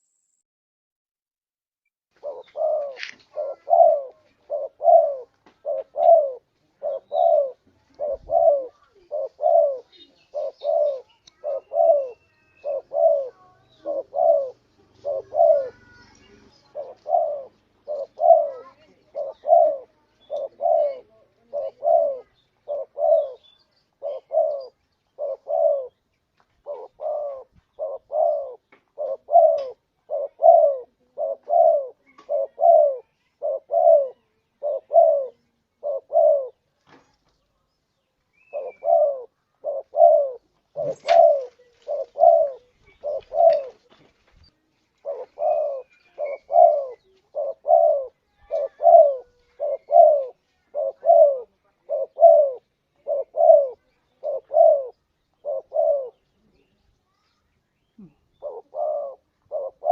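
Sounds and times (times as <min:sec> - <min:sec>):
dove cooing: 0:02.2 - 0:26.0, 0:26.6 - 0:36.7, 0:38.4 - 0:44.0, 0:44.9 - 0:56.7, 0:58.0 - 0:59.9.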